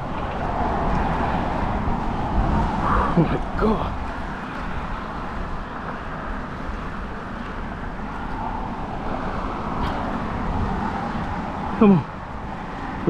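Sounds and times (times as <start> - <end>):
road traffic rumble: 0.0 - 13.0
wind noise on microphone: 0.0 - 13.0.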